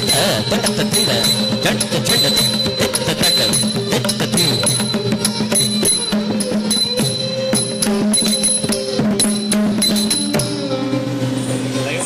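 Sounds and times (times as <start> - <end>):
drum playing quick pattern: 0.0 - 10.7
held melodic line: 0.0 - 12.0.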